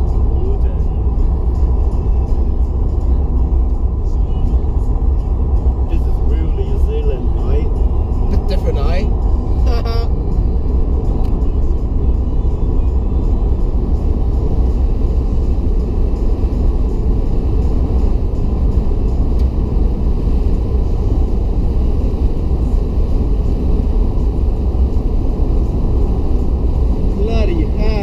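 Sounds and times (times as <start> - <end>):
car driving on highway interior: 0.0 - 28.0.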